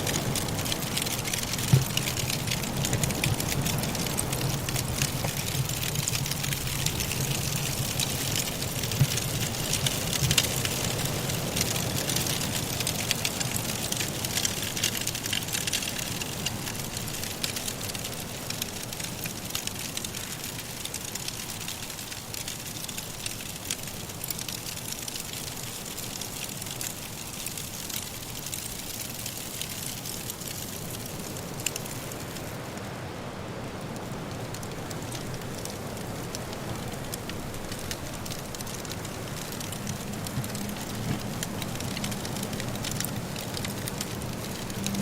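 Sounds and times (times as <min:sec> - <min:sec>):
blizzard wind hiss: 0:00.0 - 0:45.0
wood fire crackling and popping: 0:00.0 - 0:45.0.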